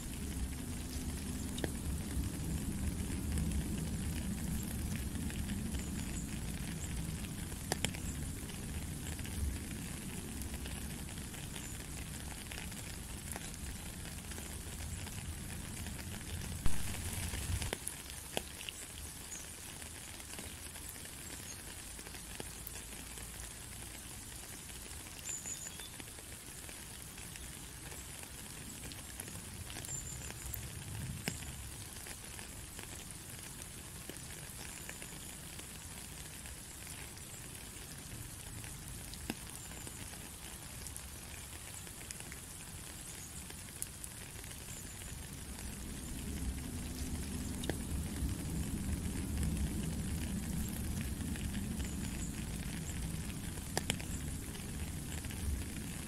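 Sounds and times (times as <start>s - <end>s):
rain on puddle and gravel: 0.0s - 56.0s.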